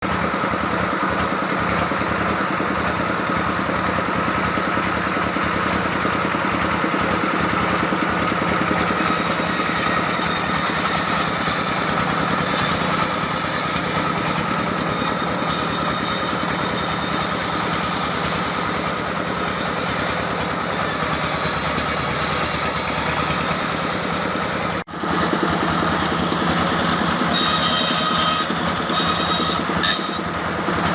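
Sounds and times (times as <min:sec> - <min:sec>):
sawmill engine running: 0:00.0 - 0:30.9.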